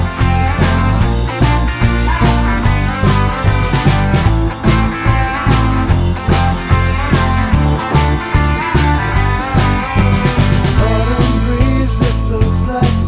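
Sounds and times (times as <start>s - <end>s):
bass guitar: 0.0s - 13.0s
electric guitar lead: 0.0s - 13.0s
steady drum beat: 0.0s - 13.0s.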